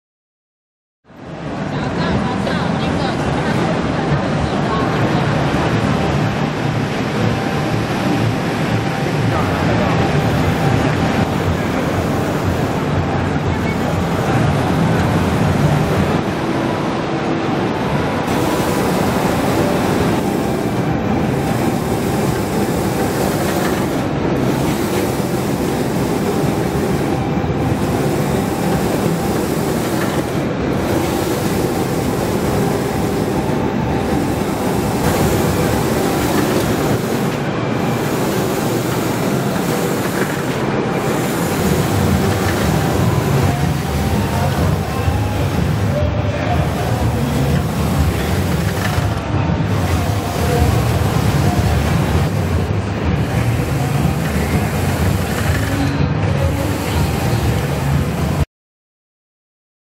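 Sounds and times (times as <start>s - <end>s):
printer running: 2.0s - 58.5s.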